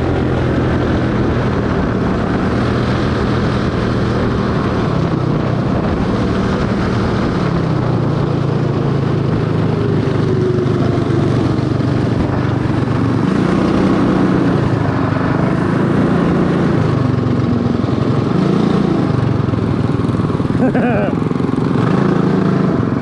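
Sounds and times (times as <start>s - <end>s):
small kart engine running: 0.0s - 23.0s.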